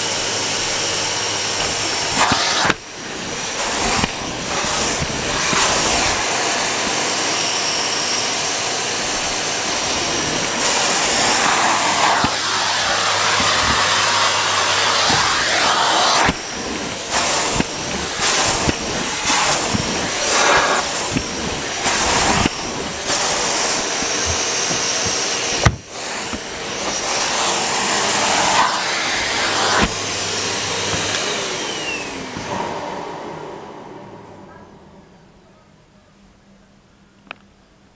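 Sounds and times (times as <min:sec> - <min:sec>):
vacuum cleaner on carpet: 0:00.0 - 0:35.3.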